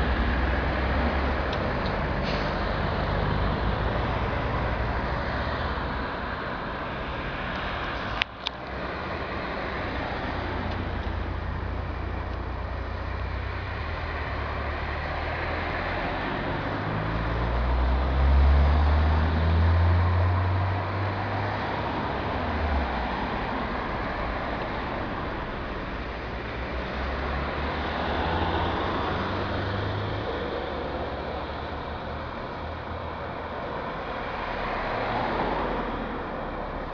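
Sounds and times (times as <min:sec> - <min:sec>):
car engine: 0:00.0 - 0:36.9
road noise: 0:00.0 - 0:36.9.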